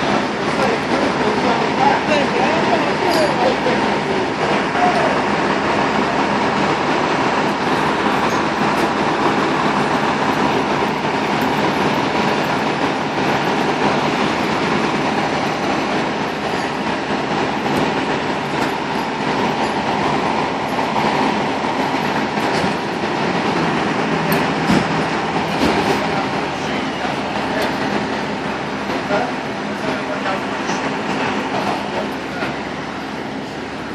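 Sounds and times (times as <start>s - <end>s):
diesel engines idling: 0.0s - 33.9s.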